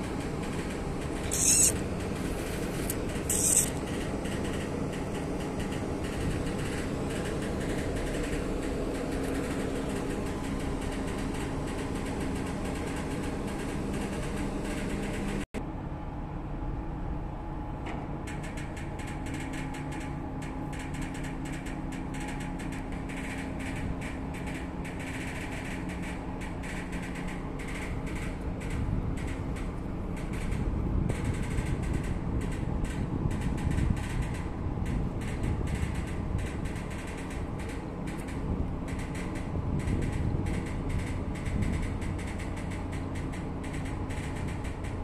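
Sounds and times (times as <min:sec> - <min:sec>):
ship ramp machinery hum: 0:00.0 - 0:45.0.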